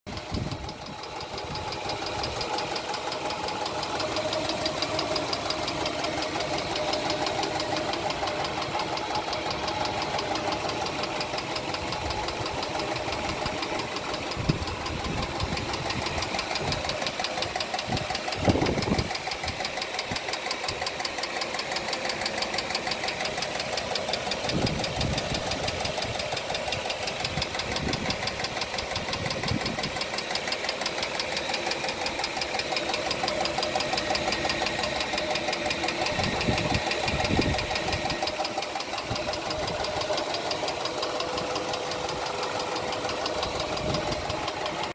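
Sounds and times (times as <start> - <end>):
car engine idling with ticking: 0.1 - 44.9.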